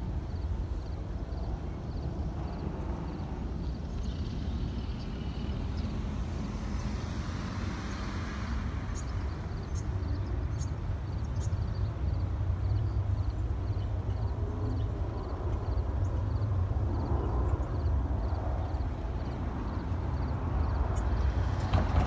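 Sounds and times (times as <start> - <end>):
jet airliner engine rumble: 0.0 - 22.0.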